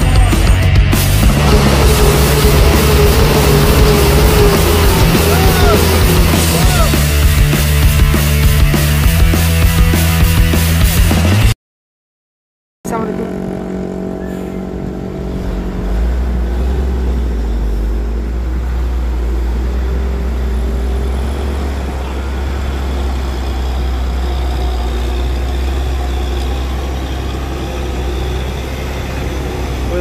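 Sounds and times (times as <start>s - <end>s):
diesel truck engine rumbling: 0.0s - 11.4s, 12.9s - 30.0s.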